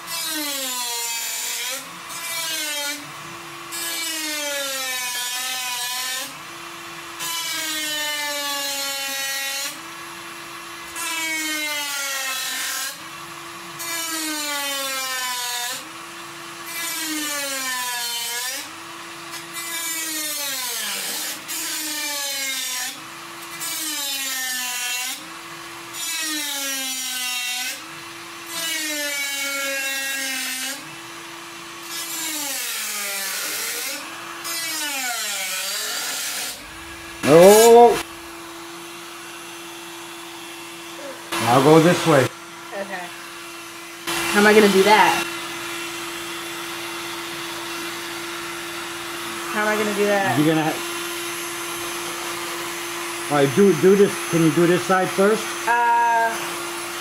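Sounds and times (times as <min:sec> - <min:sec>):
rotary tool cutting metal: 0:00.0 - 0:57.0.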